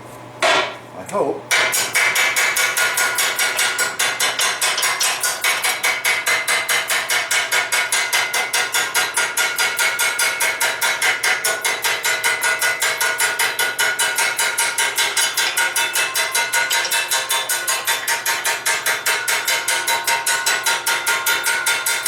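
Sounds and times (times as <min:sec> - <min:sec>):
machine hammering on steel: 0:01.5 - 0:22.0.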